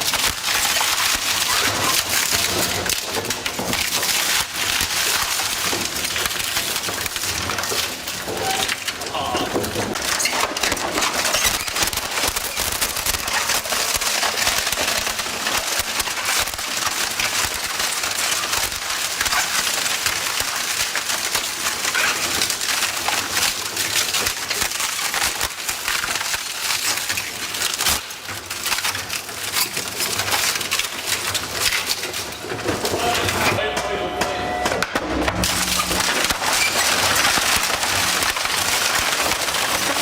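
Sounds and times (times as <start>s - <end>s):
shredder splintering wood: 0.0s - 40.0s.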